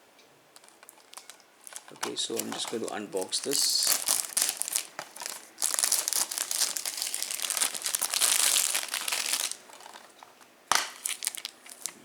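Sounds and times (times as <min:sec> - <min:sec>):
plastic wrapping crinkling and tearing: 0:00.6 - 0:12.0.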